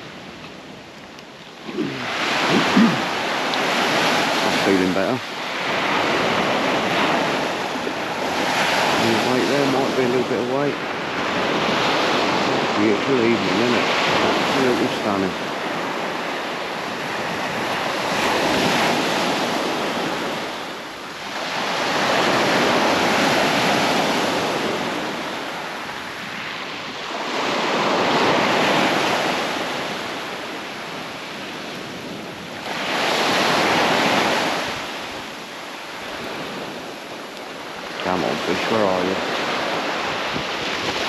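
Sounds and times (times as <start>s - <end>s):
small waves breaking on beach: 0.0s - 41.0s.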